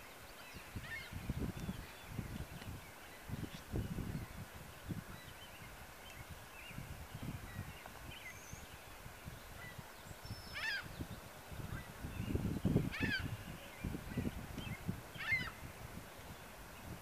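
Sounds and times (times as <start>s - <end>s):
faint songbird chirps: 0.0s - 17.0s.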